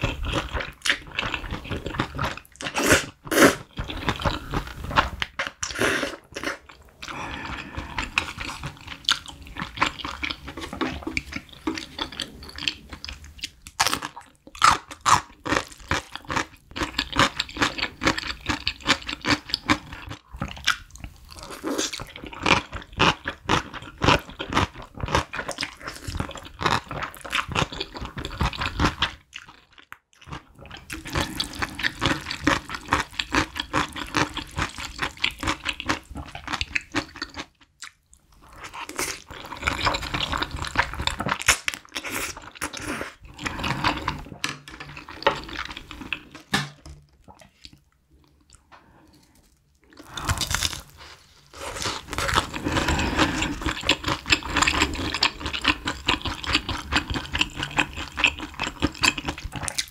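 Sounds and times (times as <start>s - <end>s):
wet chewing and slurping: 0.0s - 46.5s, 47.3s - 59.9s.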